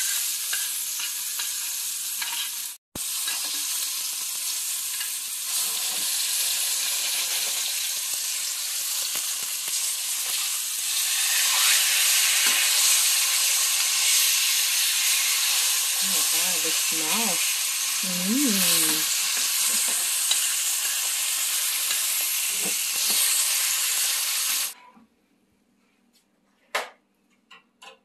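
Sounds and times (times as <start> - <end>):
steak sizzling in a pan: 0.0 - 24.8.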